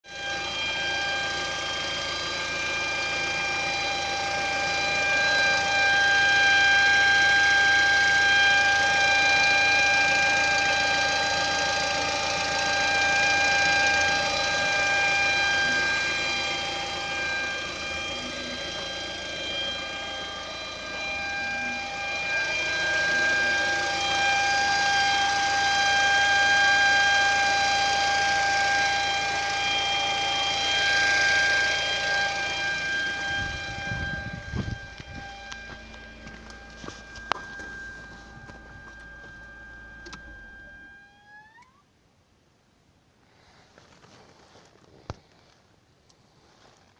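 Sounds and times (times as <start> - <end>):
car engine idling: 0.1 - 41.1
high-pitched whistle: 0.1 - 41.9.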